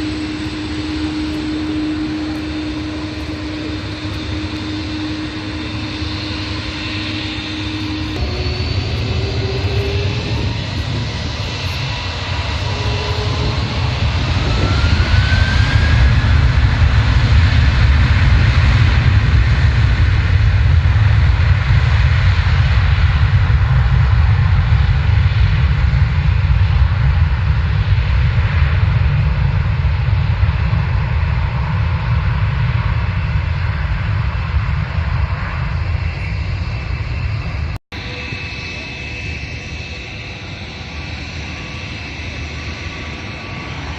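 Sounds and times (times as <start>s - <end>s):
airliner engines rumbling: 0.0s - 43.9s
rising engine whine: 0.0s - 43.9s.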